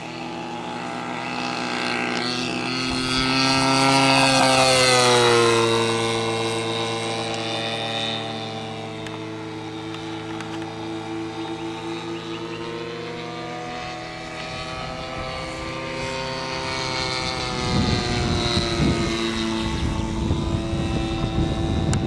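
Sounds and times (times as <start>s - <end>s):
model airplane engine and propeller: 0.0s - 22.0s.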